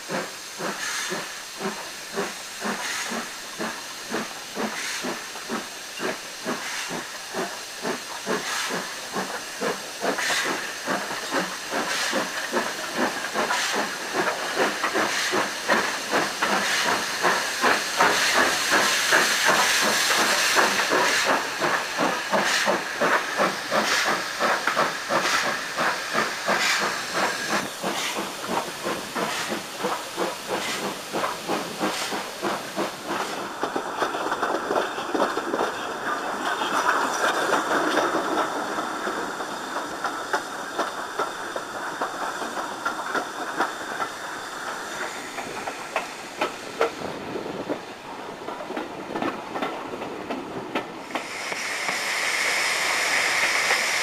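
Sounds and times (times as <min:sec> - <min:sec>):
steam hiss: 0:00.0 - 0:54.0
steam locomotive exhaust beats: 0:00.0 - 0:54.0.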